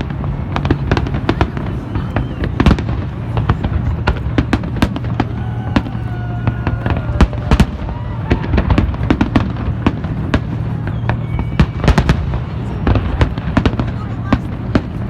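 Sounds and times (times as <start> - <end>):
continuous low rumble: 0.0 - 15.0
fireworks bangs and crackles: 0.0 - 15.0.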